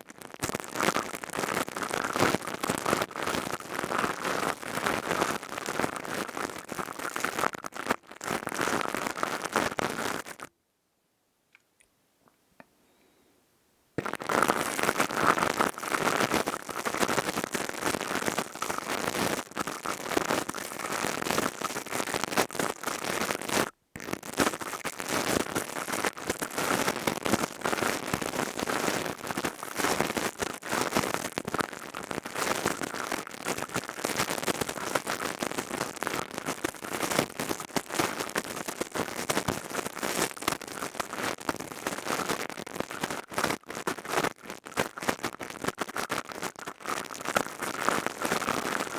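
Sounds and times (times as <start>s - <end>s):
crystal tubes crackling: 0.1s - 10.5s, 14.0s - 48.9s.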